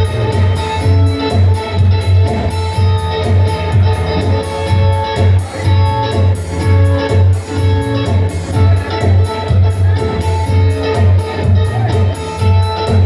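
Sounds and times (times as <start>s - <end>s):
double bass line: 0.0s - 13.0s
guitar playing: 0.0s - 13.0s.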